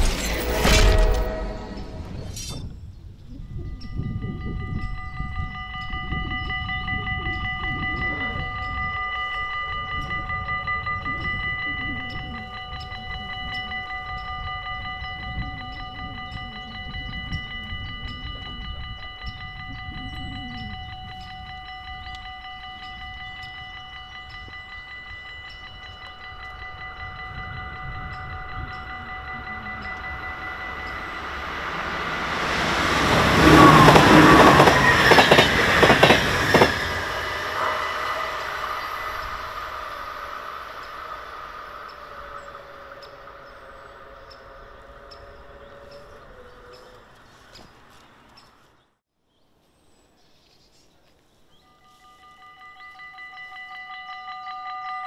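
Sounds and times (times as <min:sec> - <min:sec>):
level crossing bells ringing: 0:00.0 - 0:47.0, 0:51.7 - 0:55.0
train arriving: 0:00.0 - 0:48.5.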